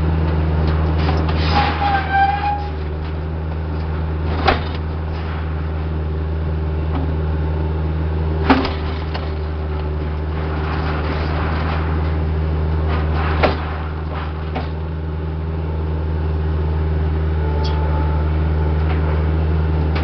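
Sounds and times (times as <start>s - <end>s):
heavy equipment engine running: 0.0s - 20.0s.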